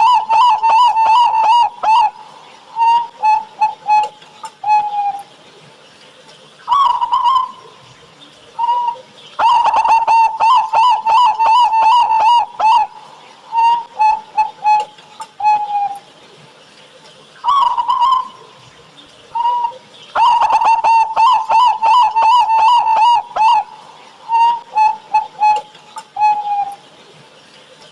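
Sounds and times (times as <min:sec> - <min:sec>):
doves cooing: 0:00.0 - 0:05.3, 0:06.7 - 0:16.1, 0:17.4 - 0:27.1.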